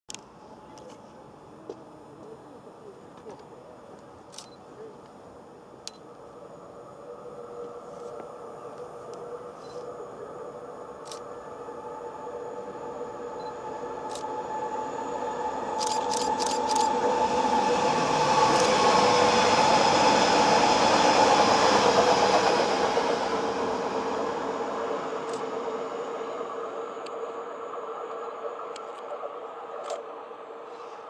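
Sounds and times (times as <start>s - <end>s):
electric train passing: 0.1s - 31.0s
train motor whine: 5.8s - 31.0s.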